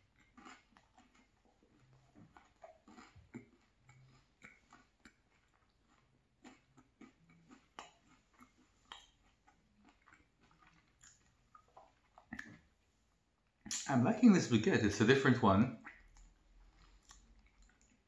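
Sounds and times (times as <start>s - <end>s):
chewing with wet smacks: 0.0s - 13.9s, 15.8s - 18.0s.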